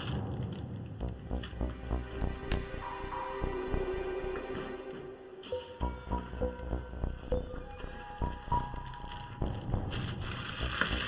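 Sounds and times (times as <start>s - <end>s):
background music with steady beat: 1.0s - 11.0s.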